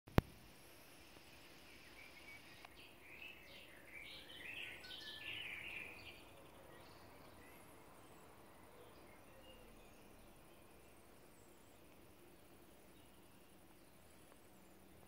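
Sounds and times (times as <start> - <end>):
faint steady hiss: 0.1 - 15.0
songbird singing faintly: 0.1 - 15.0.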